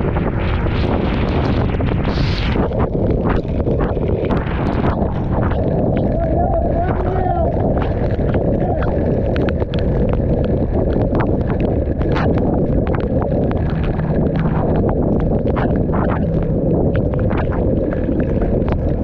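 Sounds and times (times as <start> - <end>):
raindrops clicking: 0.0 - 19.0
wind rumble on microphone: 0.0 - 19.0.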